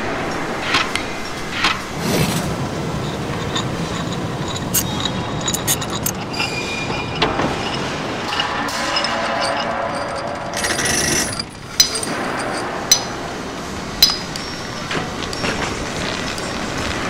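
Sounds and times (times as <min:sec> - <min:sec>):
workshop tool clatter: 0:00.0 - 0:17.0.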